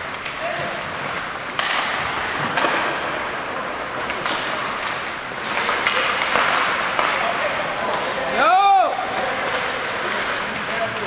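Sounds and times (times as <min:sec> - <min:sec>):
hockey sticks and puck clacking: 0:00.0 - 0:11.0
skates scraping ice: 0:00.0 - 0:11.0.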